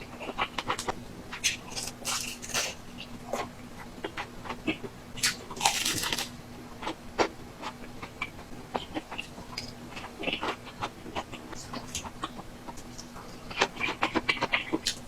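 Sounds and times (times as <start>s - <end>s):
chewing with crunches: 0.0s - 15.0s.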